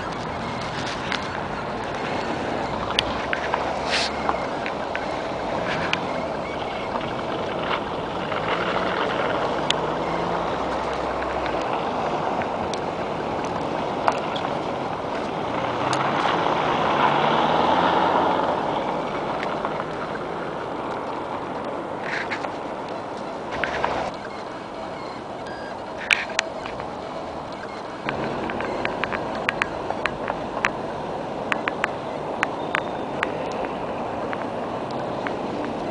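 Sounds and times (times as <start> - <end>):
vehicles driving past: 0.0 - 35.9.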